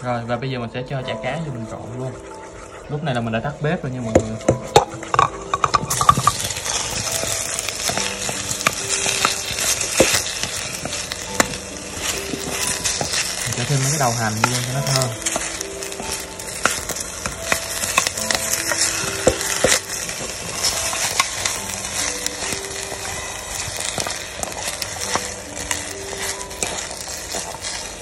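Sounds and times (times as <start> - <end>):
sauce sizzling: 0.0 - 28.0
chopsticks clicking against pot: 4.2 - 28.0.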